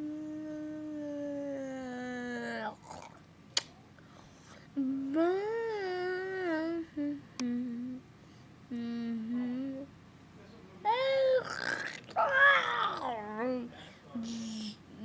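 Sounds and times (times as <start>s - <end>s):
low humming vocal notes: 0.0s - 15.0s.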